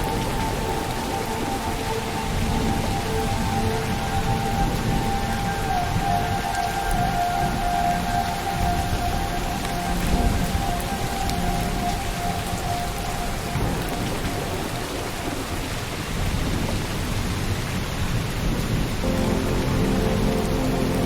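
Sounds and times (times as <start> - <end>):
low rumble of thunder: 0.0 - 21.0
steady rainfall: 0.0 - 21.0.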